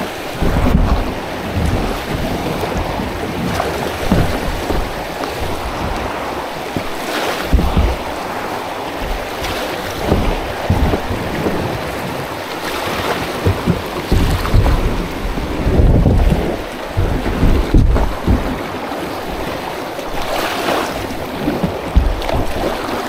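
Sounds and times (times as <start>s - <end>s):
river water splashing: 0.0s - 23.0s
wind buffeting microphone: 0.0s - 23.0s.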